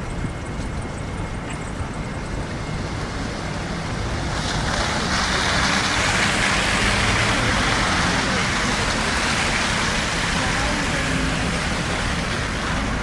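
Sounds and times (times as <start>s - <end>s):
low rumble of snowstorm: 0.0s - 13.0s.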